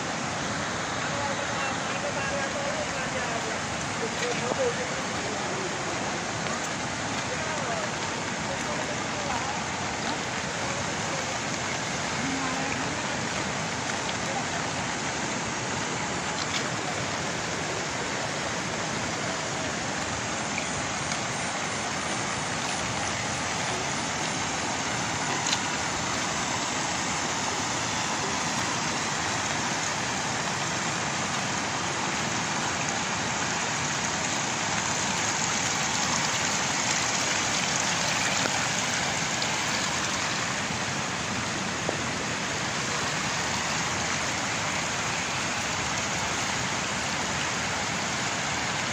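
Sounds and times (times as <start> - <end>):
floodwater rushing over fields: 0.0 - 48.9.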